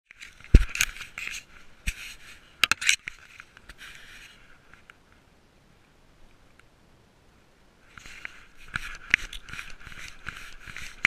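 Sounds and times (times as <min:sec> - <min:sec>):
dry grass rustling against camera: 0:00.1 - 0:11.0.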